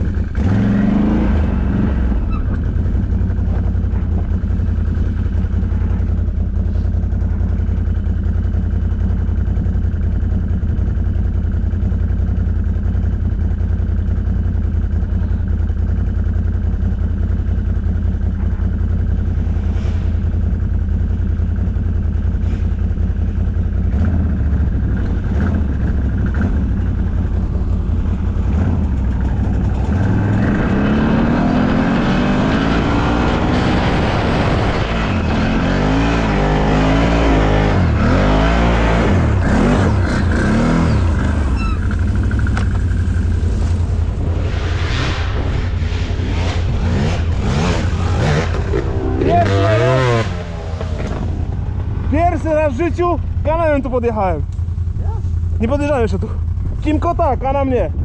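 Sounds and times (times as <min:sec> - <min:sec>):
atv engine running under load: 0:00.0 - 0:58.0.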